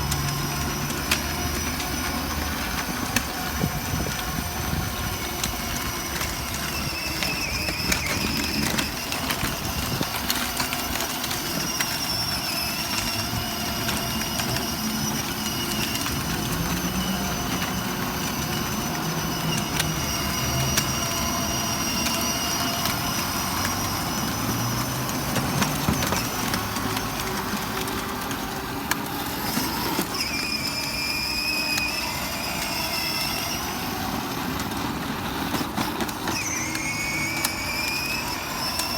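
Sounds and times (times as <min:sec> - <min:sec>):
vehicle motor running: 0:00.0 - 0:38.9.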